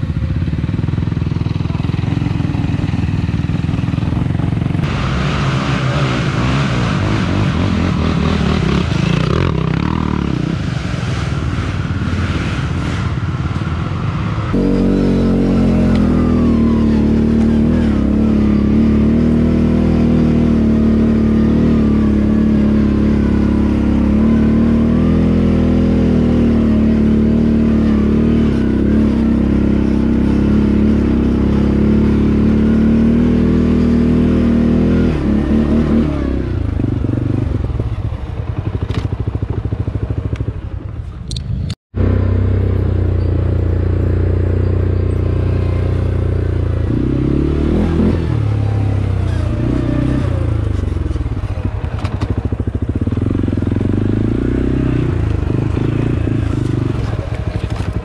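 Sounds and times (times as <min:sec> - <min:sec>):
atv engine revving: 0:00.0 - 0:40.7, 0:42.0 - 0:58.0.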